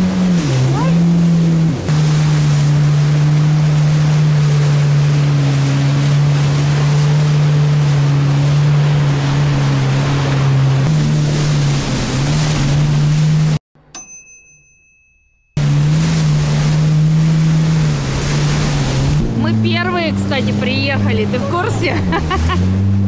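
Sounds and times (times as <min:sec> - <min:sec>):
rush of wind and water spray: 0:00.0 - 0:13.6, 0:15.6 - 0:20.8
jet ski engine droning: 0:00.0 - 0:14.9, 0:15.6 - 0:23.0.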